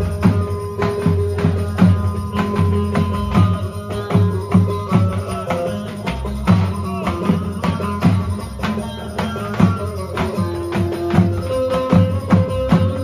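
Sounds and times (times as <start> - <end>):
bass drum beating: 0.0 - 13.0
folk dance music: 0.0 - 13.0.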